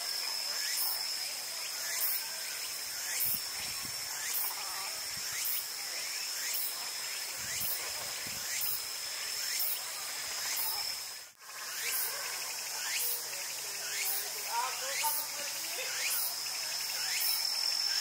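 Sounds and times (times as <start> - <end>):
insects shrilling: 0.0 - 18.0.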